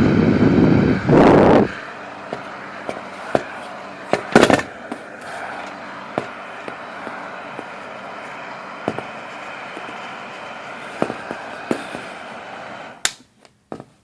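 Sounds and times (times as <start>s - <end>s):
hair dryer whirring: 0.0s - 13.2s.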